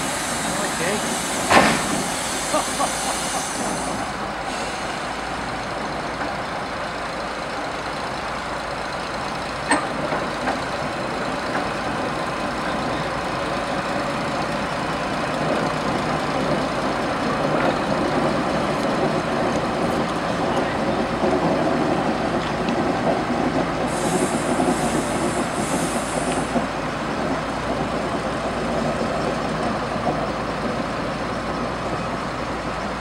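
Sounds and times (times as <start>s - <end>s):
diesel locomotive engine running: 0.0s - 33.0s.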